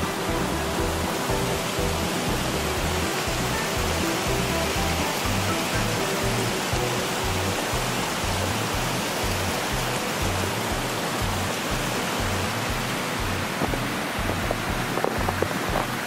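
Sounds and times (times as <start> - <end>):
ambient music with pulsing bass: 0.0 - 16.0
steady rushing noise: 0.0 - 16.0.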